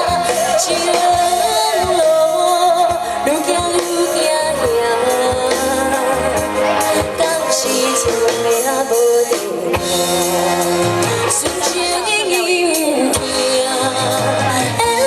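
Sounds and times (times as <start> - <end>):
live band pop music: 0.0 - 15.0.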